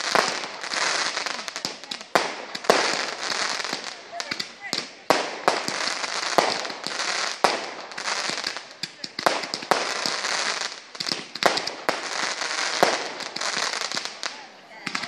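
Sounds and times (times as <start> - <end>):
fireworks bangs: 0.0 - 15.0
hiss and crackle of fireworks: 0.0 - 15.0.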